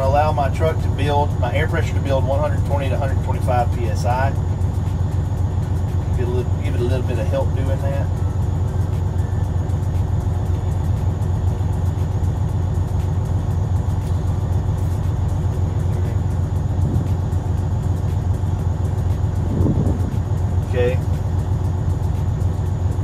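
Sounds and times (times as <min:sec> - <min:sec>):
diesel engine at raised idle: 0:00.0 - 0:23.0.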